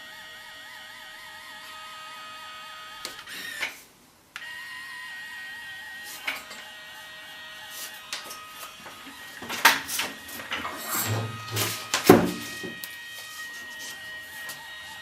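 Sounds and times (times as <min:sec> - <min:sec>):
small motor whining: 0:00.0 - 0:03.8, 0:04.4 - 0:15.0.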